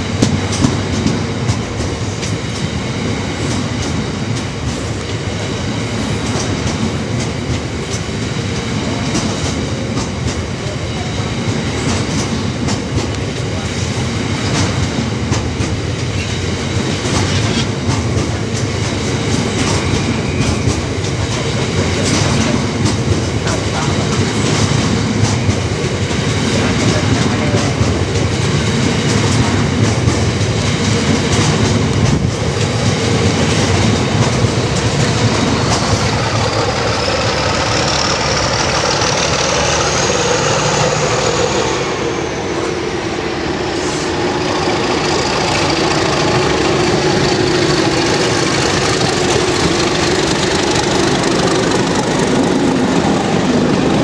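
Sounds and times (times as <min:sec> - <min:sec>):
freight train wheels clattering: 0:00.0 - 0:54.0.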